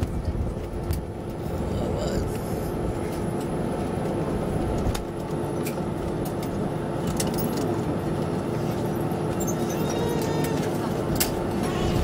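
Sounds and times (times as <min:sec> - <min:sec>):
jet engines rumbling at idle: 0:00.0 - 0:12.0.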